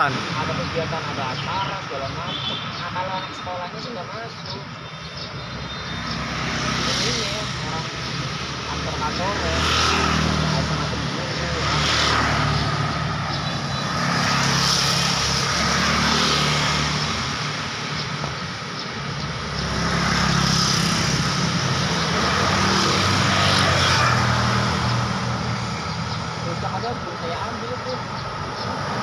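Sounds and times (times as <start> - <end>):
vehicles passing: 0.0 - 29.0.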